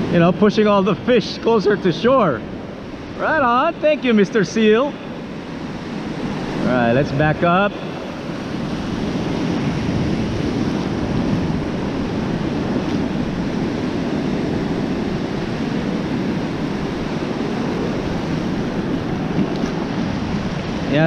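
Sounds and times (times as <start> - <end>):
ocean surf: 0.0 - 21.0
wind rumbling on microphone: 0.0 - 21.0.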